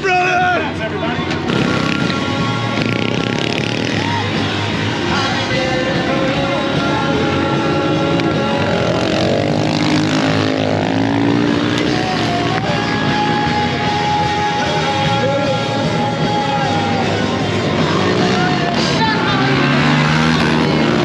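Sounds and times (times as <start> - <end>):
music playing: 0.0 - 21.0
motorbike engine revving: 1.3 - 21.0.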